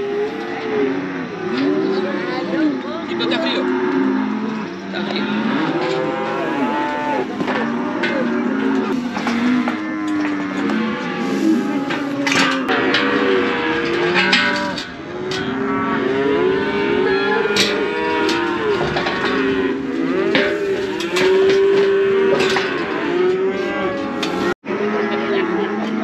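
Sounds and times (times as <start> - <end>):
cattle bawling: 0.0 - 26.0.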